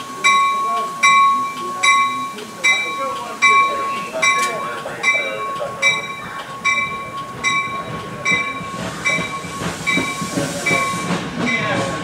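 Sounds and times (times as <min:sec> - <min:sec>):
train bell ringing: 0:00.0 - 0:12.0
train wheels rumbling on rails: 0:00.0 - 0:12.0.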